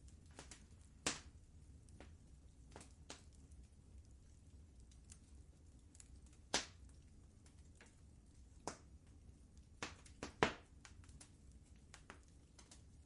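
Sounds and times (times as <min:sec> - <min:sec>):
faint low rumble: 0:00.0 - 0:13.0
wood fire crackling and popping: 0:00.0 - 0:13.0.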